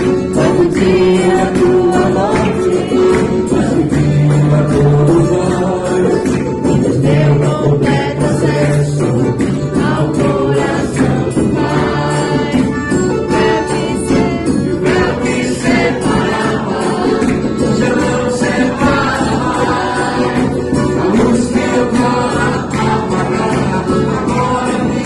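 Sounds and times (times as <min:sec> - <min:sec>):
tambourine shaking: 0:00.0 - 0:25.0
voices singing over instruments: 0:00.0 - 0:25.0.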